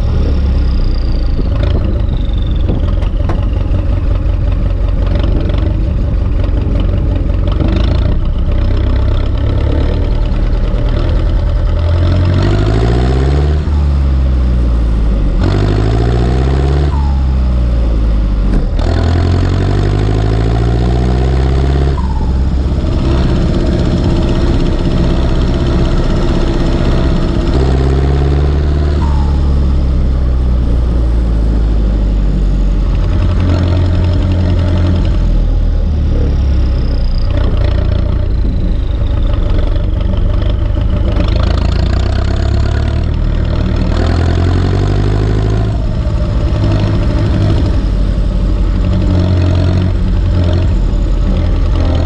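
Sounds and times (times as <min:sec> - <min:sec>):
tractor diesel engine revving: 0:00.0 - 0:52.0.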